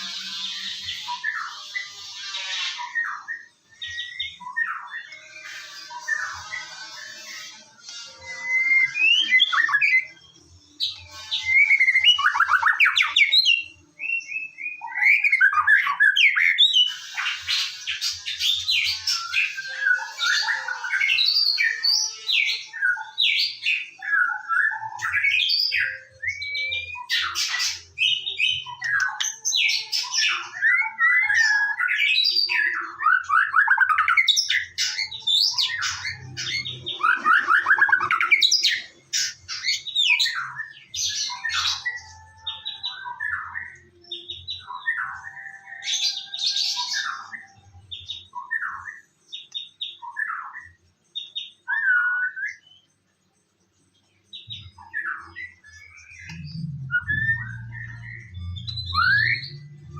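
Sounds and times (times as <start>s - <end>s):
bird singing whistled phrases: 0.0s - 10.2s, 10.8s - 50.8s, 51.4s - 52.8s, 54.5s - 59.9s.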